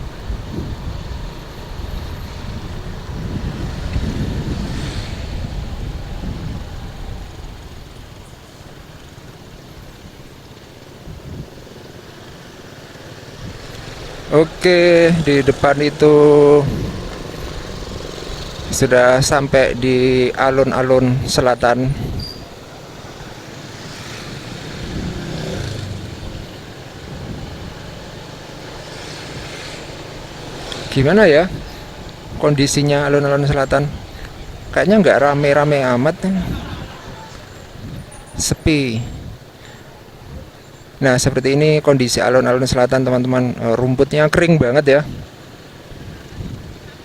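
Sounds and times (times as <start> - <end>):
low traffic hum: 0.0 - 47.0
street noise: 0.0 - 47.0
vehicle rumble: 0.0 - 47.0.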